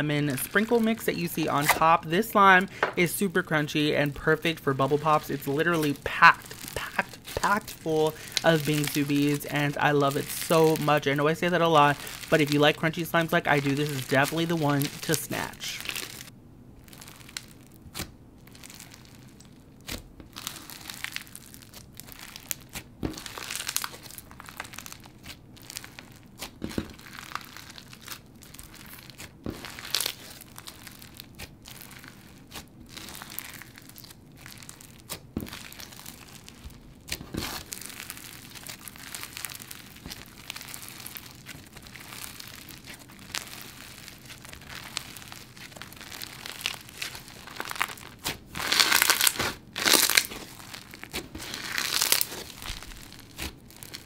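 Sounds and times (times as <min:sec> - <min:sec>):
crunchy slime being squished: 0:00.0 - 0:54.0
slime popping: 0:00.3 - 0:02.0, 0:04.4 - 0:16.3, 0:16.9 - 0:54.0.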